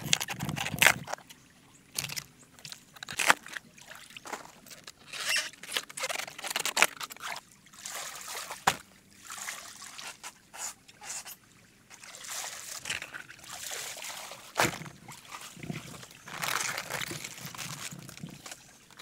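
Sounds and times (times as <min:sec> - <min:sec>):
water sloshing and trickling: 0:00.0 - 0:19.0.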